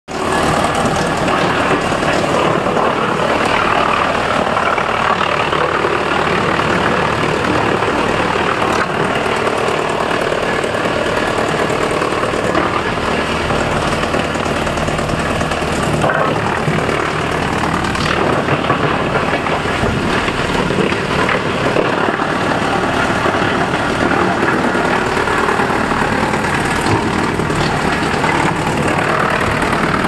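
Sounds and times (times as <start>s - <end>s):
wood chipper chipping logs: 0.1s - 30.0s.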